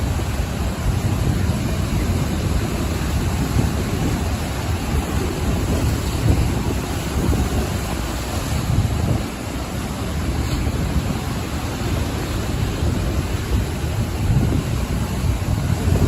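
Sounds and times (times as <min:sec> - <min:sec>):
ocean surf washing ashore: 0:00.0 - 0:16.0
wind buffeting microphone: 0:00.0 - 0:16.0.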